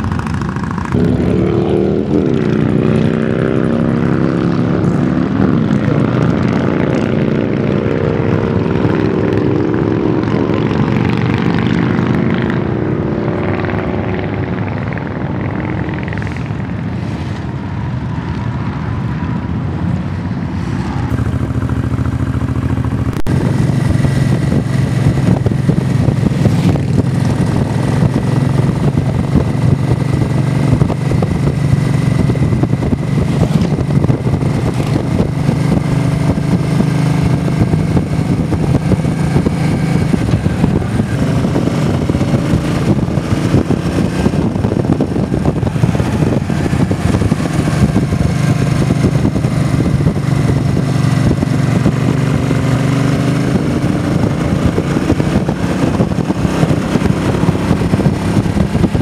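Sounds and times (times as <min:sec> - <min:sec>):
motorcycle engine running: 0:00.0 - 0:18.6, 0:20.9 - 0:59.0
heavy wind noise: 0:00.0 - 0:59.0.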